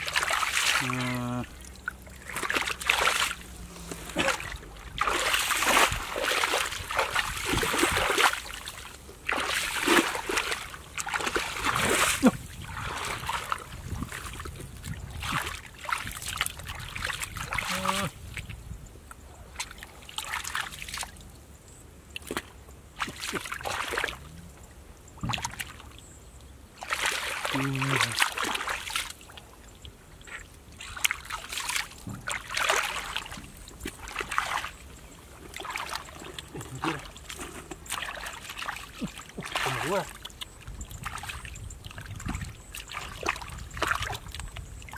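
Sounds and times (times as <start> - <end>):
feet splashing in muddy water: 0.0 - 18.5, 19.5 - 21.2, 22.1 - 24.4, 25.2 - 25.9, 26.8 - 29.5, 30.2 - 44.9.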